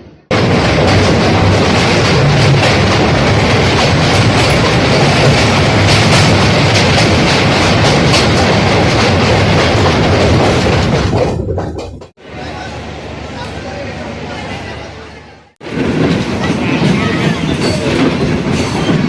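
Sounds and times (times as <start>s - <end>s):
train rumbling on rails: 0.0s - 19.0s
wheels clacking over rail joints: 0.3s - 12.7s, 15.6s - 19.0s.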